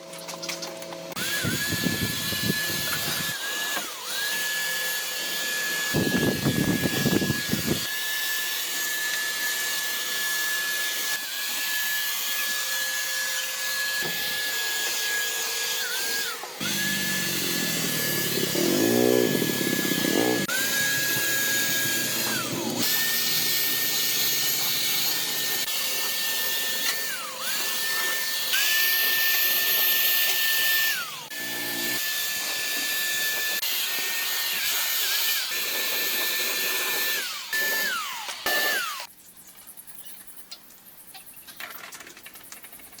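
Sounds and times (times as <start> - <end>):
power tool whining: 0.4 - 39.1.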